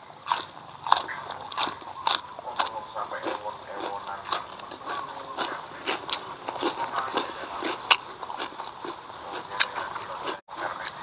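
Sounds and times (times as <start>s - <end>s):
mouth clicks: 0.0s - 11.0s
person chewing food: 0.0s - 11.0s.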